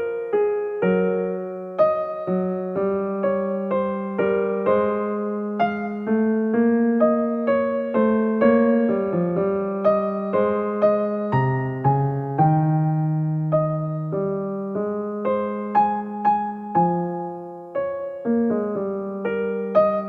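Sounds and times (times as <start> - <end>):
gentle keyboard melody: 0.0 - 20.0.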